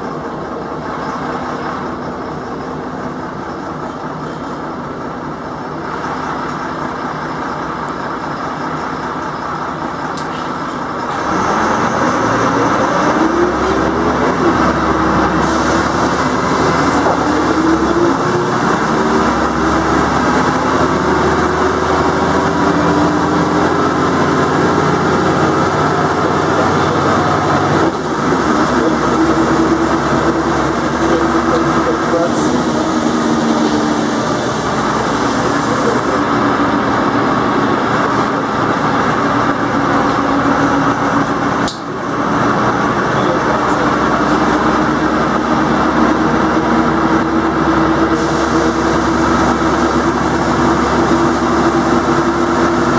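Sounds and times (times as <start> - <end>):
bus engine whining and droning: 0.0 - 52.9.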